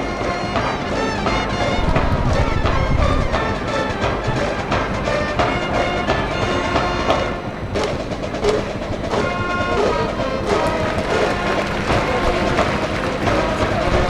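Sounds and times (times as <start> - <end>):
brass horns playing melody: 0.0 - 14.0
steady drum beat: 0.0 - 14.0.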